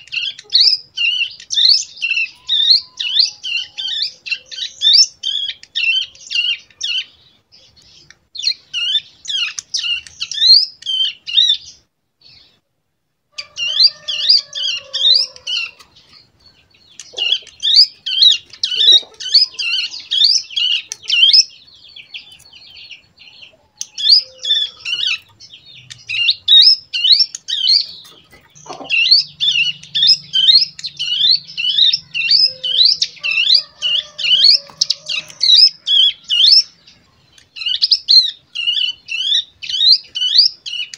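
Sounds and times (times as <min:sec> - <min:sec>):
bird singing rapid sharp chirps: 0:00.0 - 0:12.6, 0:13.4 - 0:40.9.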